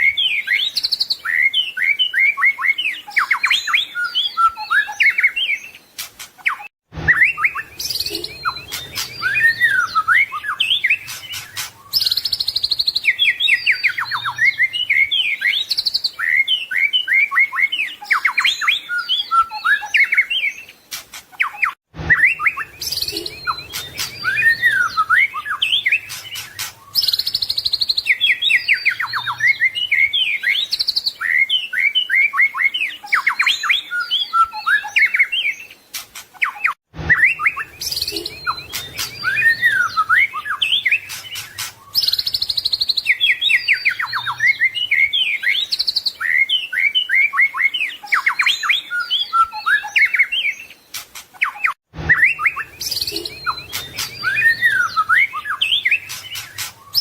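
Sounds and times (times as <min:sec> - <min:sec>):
songbird singing whistles and trills: 0:00.0 - 0:57.0.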